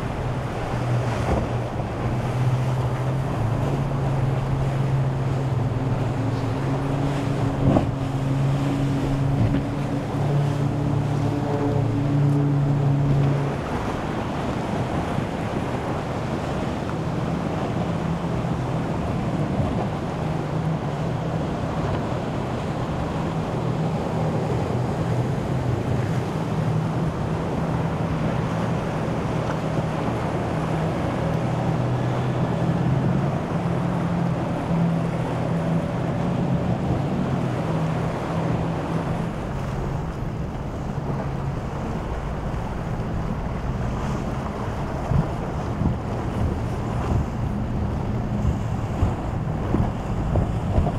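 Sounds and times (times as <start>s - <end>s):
boat engines humming: 0.0s - 50.9s
waves washing: 0.0s - 50.9s
wind buffeting microphone: 0.0s - 50.9s.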